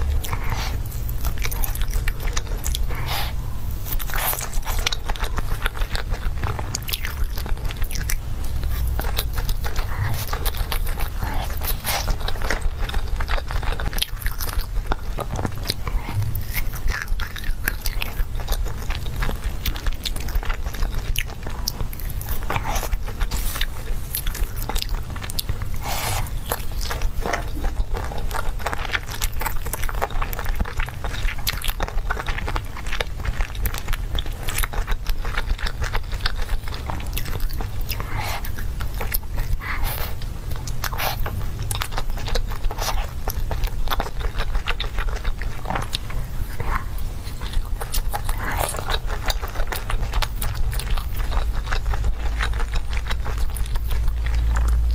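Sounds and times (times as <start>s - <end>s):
chewing and biting meat: 0.0s - 54.9s.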